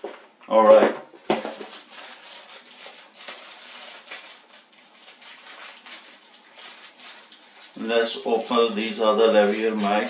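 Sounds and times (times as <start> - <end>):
plastic bags crinkling: 1.4 - 10.0.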